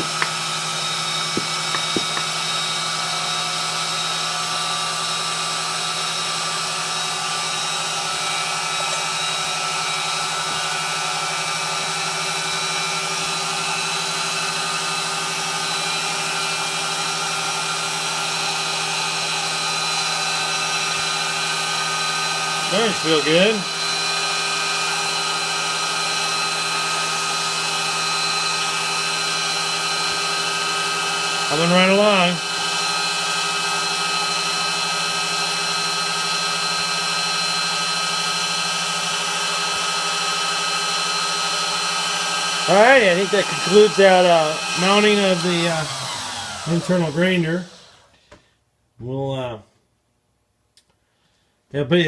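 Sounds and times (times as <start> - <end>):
grinder motor whining: 0.0 - 48.2.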